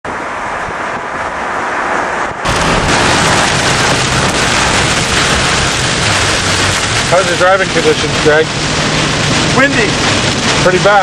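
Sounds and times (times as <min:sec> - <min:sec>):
heavy rain and wind on vehicle: 0:00.0 - 0:11.0.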